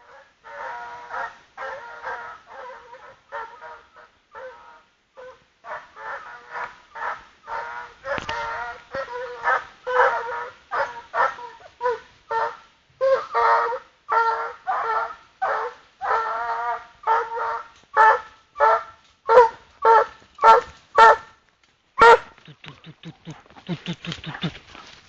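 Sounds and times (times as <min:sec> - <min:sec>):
hound baying: 0:00.0 - 0:21.3, 0:22.0 - 0:24.6.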